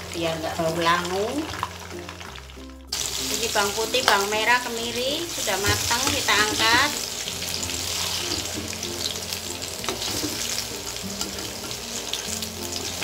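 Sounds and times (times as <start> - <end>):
hot oil sizzling in a wok: 0.0 - 13.0.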